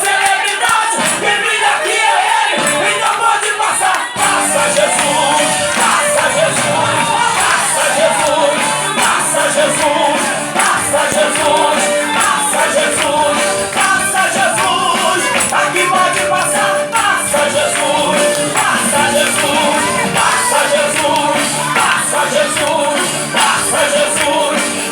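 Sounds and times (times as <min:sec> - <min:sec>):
voices singing: 0:00.0 - 0:24.9
band playing: 0:00.8 - 0:24.9
jingling tambourine: 0:04.2 - 0:24.9.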